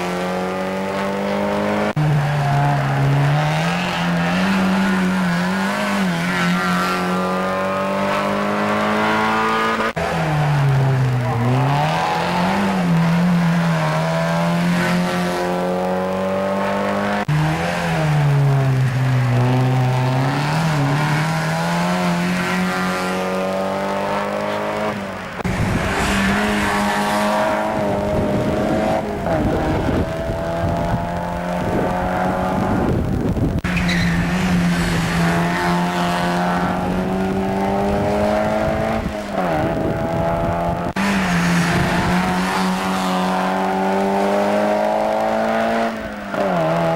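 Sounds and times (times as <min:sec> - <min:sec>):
race car engines at full throttle: 0:00.0 - 0:46.9.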